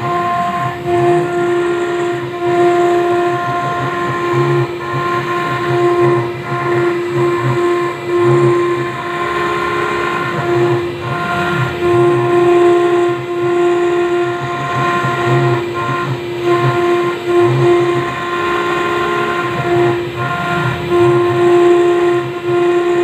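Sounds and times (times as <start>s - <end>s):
engraving machine spindle whine: 0.0s - 23.0s
low pulsing machine hum: 0.0s - 23.0s.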